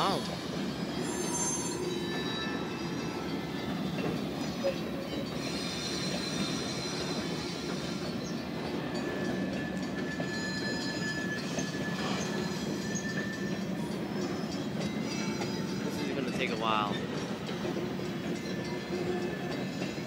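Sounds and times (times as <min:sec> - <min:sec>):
freight train wheels rumbling: 0:00.0 - 0:20.0
high wheel squeals: 0:00.0 - 0:20.0.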